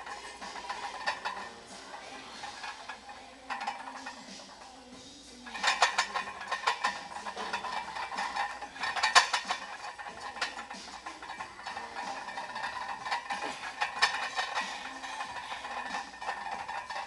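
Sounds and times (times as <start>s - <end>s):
weight plates clinking and rattling: 0.0s - 17.0s.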